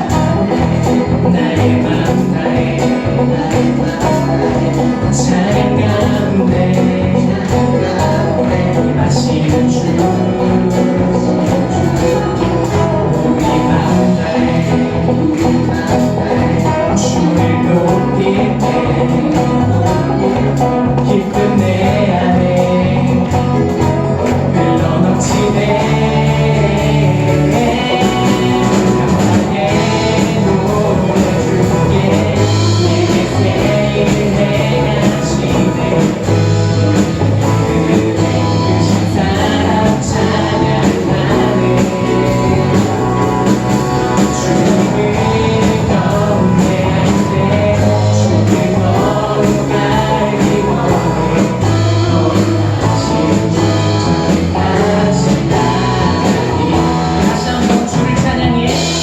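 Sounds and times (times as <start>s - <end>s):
live band playing: 0.0s - 59.0s
people singing: 0.0s - 59.0s.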